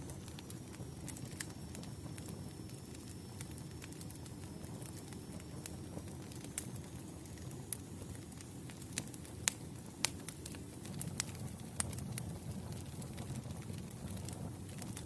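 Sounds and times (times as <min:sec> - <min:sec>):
campfire crackles and pops: 0:00.0 - 0:15.0
campfire low rumble: 0:00.0 - 0:15.0.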